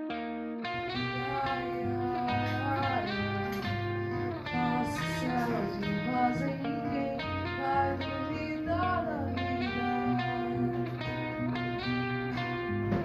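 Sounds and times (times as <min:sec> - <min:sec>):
acoustic guitar: 0:00.0 - 0:13.0
person singing: 0:00.7 - 0:13.0.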